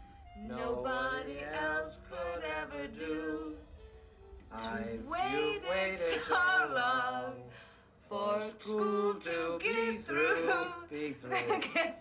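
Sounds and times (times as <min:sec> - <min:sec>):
man and woman singing: 0:00.4 - 0:03.7, 0:04.5 - 0:12.0.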